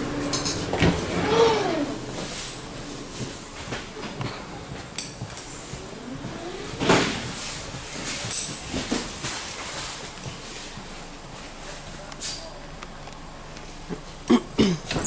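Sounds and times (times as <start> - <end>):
train carriage background noise: 0.0 - 15.0.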